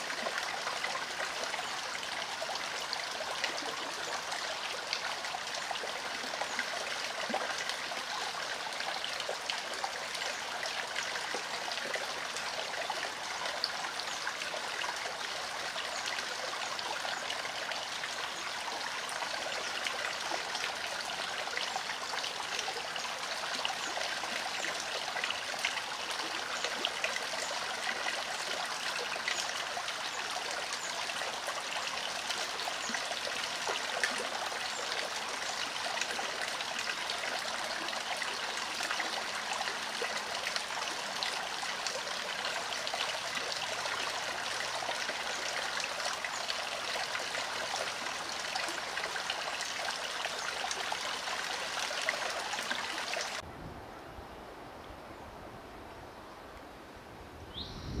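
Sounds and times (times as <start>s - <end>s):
creek babbling over stones: 0.0s - 53.5s.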